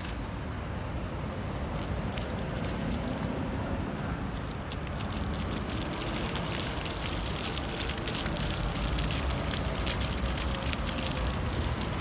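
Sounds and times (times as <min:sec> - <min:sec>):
fountain water splashing on stone: 0:00.0 - 0:12.0.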